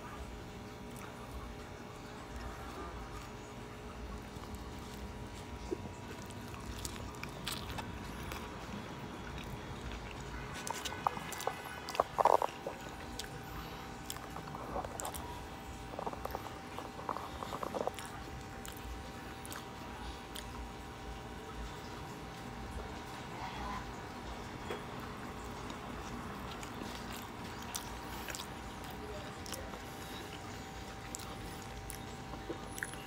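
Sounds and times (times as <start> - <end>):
person chewing food: 0.6 - 33.0.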